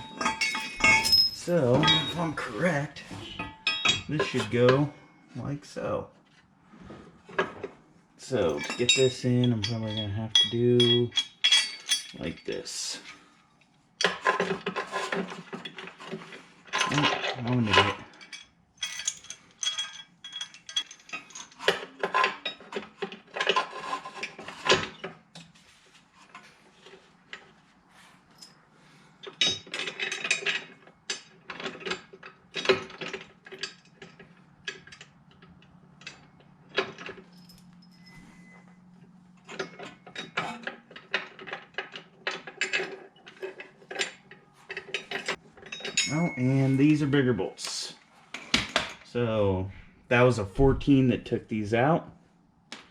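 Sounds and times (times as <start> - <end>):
metal tools clinking: 0.0 - 5.2, 7.3 - 13.3, 14.0 - 25.6, 28.2 - 49.3.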